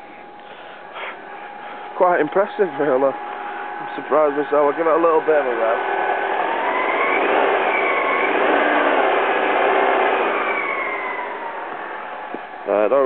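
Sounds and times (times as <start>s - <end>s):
car engine revving: 1.2s - 12.8s.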